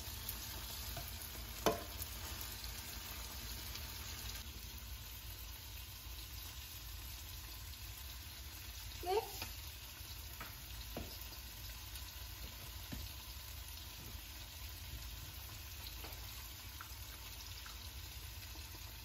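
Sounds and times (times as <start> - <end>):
green beans sizzling in pan: 0.0 - 19.0.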